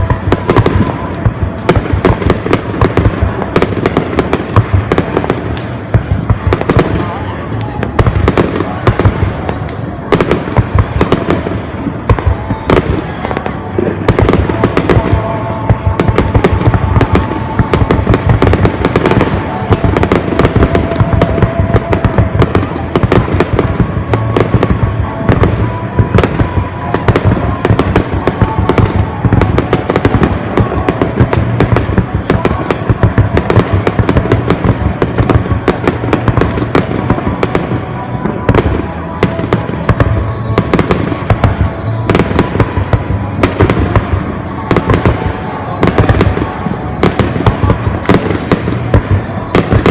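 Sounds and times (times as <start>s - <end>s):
fireworks bursts and crackling bangs: 0.0s - 49.9s.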